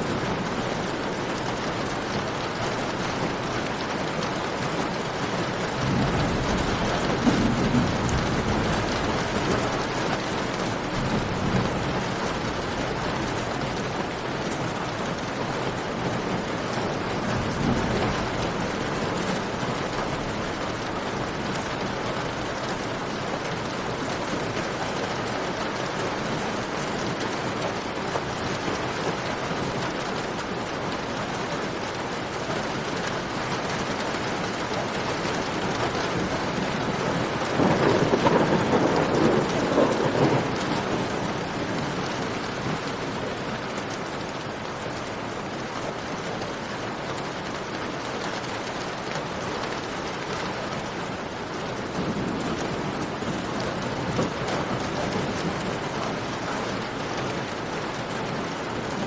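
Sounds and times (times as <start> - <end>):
rain dripping in a cave: 0.0 - 59.0.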